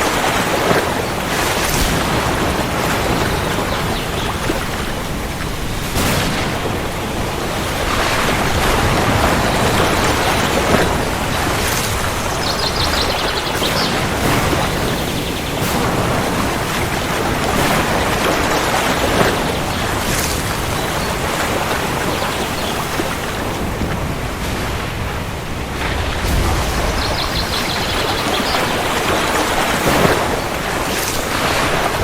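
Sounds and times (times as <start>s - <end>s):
heavy rain: 0.0s - 32.0s
thunder rumbling: 0.0s - 32.0s.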